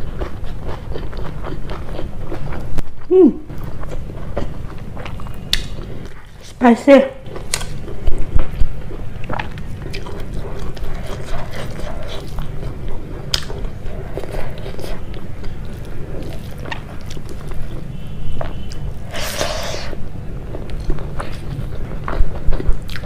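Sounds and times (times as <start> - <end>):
chewing with wet mouth clicks: 0.0 - 6.6, 7.3 - 23.0.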